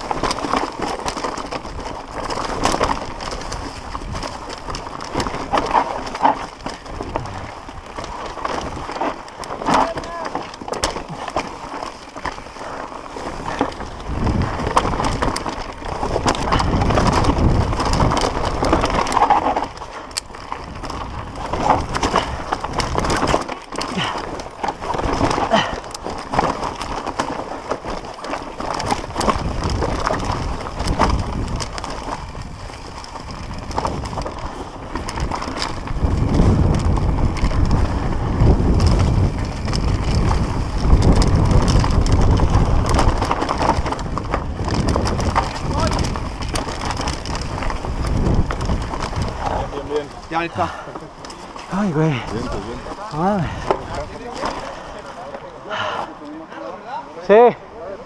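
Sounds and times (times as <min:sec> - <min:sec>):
wind buffeting microphone: 0:00.0 - 0:56.2
bike rattling and clicking: 0:00.0 - 0:58.0
tyres grinding over dirt and stones: 0:00.0 - 0:58.0.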